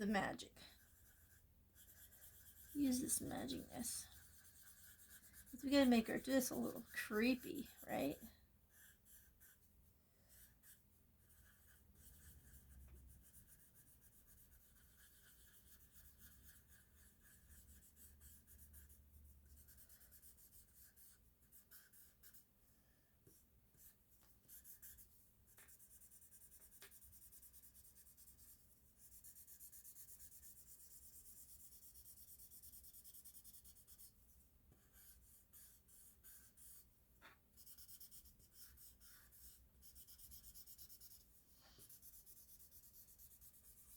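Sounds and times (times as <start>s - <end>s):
drawing tool scratching paper: 0.7s - 9.7s, 10.3s - 22.4s, 23.3s - 34.1s, 34.8s - 43.9s.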